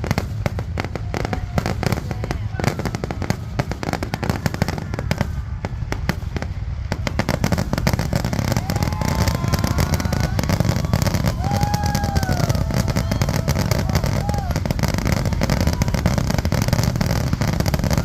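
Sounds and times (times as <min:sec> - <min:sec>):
fireworks crackling pops: 0:00.0 - 0:18.0
low rumble: 0:00.0 - 0:18.0.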